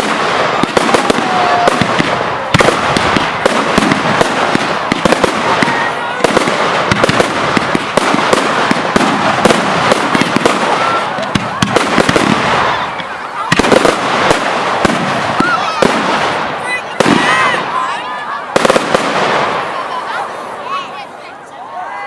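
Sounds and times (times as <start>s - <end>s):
fireworks crackling and banging: 0.0s - 21.1s.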